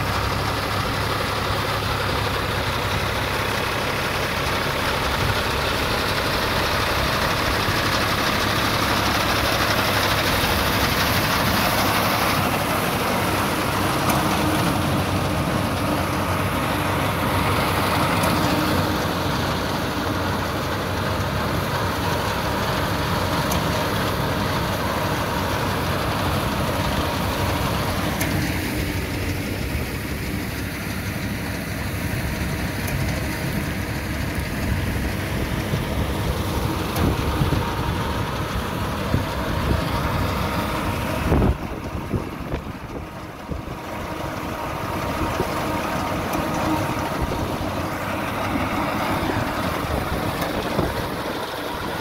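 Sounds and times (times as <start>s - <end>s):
reaper machinery noise: 0.0s - 52.0s
tractor engine running: 0.0s - 52.0s.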